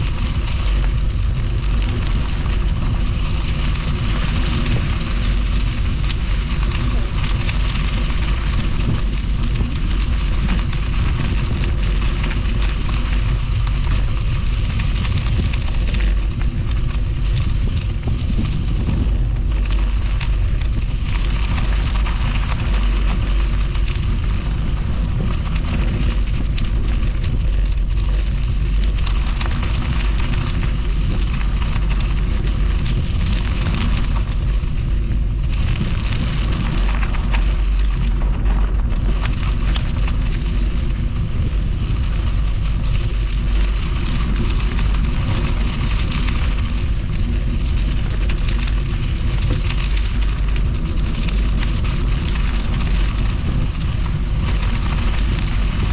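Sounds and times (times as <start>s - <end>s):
bicycle rolling along path: 0.0s - 55.9s
wind buffeting microphone: 0.0s - 55.9s.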